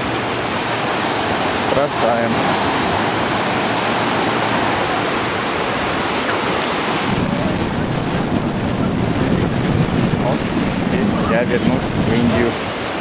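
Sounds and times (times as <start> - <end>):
waves breaking on beach: 0.0 - 13.0
wind on microphone: 0.0 - 13.0.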